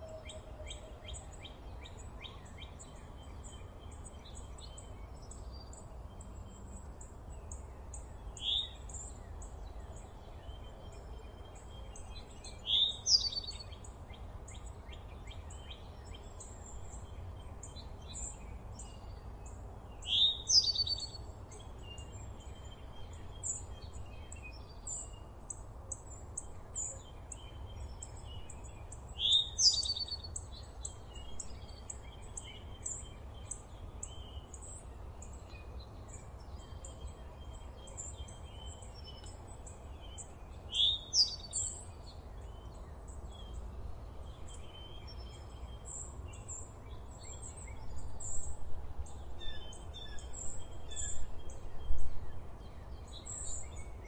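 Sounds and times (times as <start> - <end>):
small birds chirping: 0.0 - 54.0
sweeping bird song: 0.0 - 54.0.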